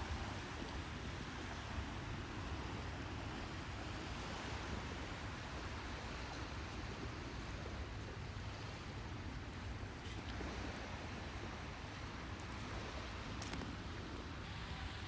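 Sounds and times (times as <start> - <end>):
sea surf at the shore: 0.0 - 15.0
wind: 0.0 - 15.0.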